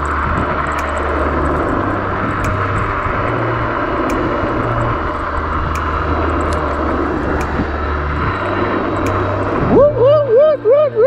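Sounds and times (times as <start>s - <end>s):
sharp clicks over bumps: 0.0s - 10.2s
wind on microphone: 0.0s - 11.0s.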